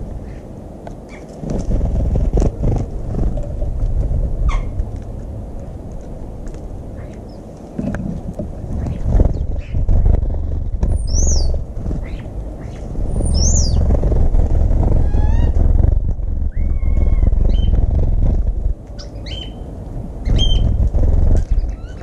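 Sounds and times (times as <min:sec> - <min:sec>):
birds calling and chirping: 0:00.0 - 0:04.9, 0:06.9 - 0:08.0, 0:08.7 - 0:14.2, 0:14.9 - 0:15.7, 0:16.4 - 0:22.0
wind buffeting microphone: 0:00.0 - 0:22.0.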